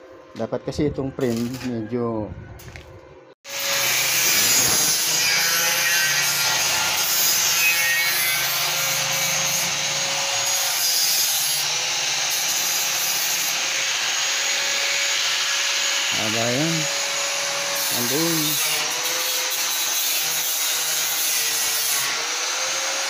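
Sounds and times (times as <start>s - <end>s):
angle grinder grinding steel: 3.5s - 23.0s.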